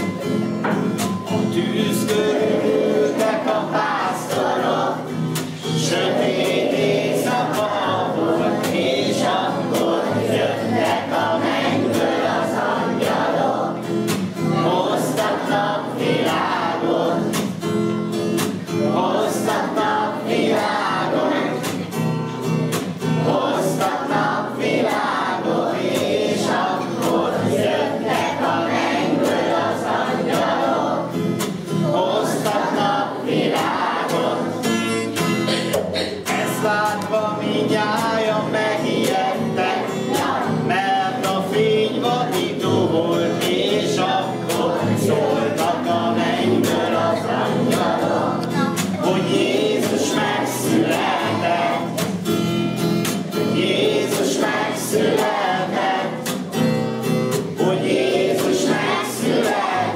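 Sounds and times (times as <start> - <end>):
children singing: 0.0 - 17.7, 18.4 - 52.3, 53.1 - 59.9
strummed acoustic guitar: 0.0 - 59.9.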